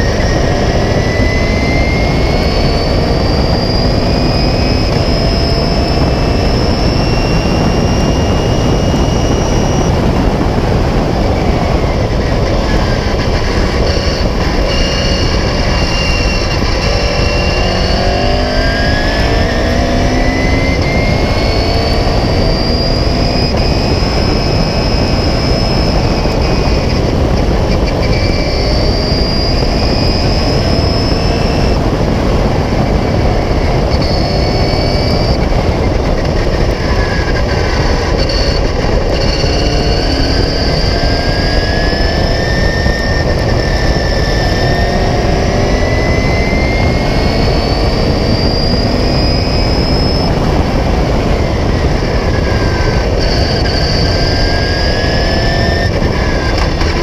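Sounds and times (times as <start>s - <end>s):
racing car engine revving: 0.0s - 57.0s
wind and road noise: 0.0s - 57.0s.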